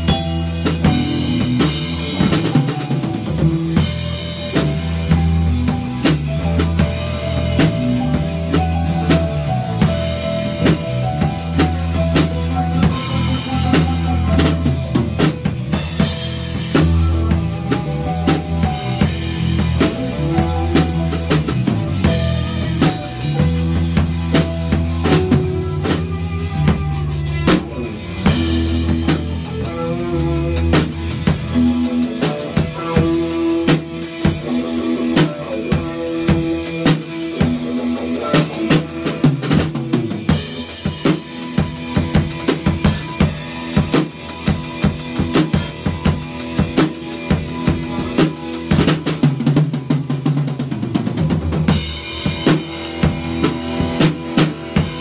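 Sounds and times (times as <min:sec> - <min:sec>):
drum kit playing: 0:00.0 - 0:55.0
electric guitars playing low notes: 0:00.0 - 0:55.0.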